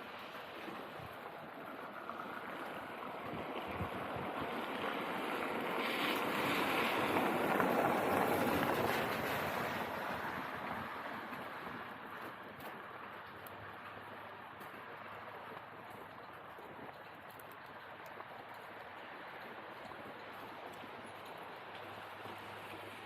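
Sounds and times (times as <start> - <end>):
tyres hissing on wet road: 0.0 - 15.6, 17.9 - 23.0.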